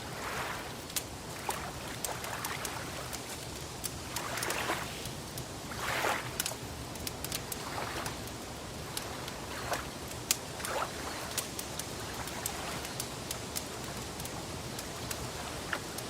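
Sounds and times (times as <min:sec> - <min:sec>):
lake water lapping: 0:00.0 - 0:16.0
wood fire crackling: 0:00.0 - 0:16.0.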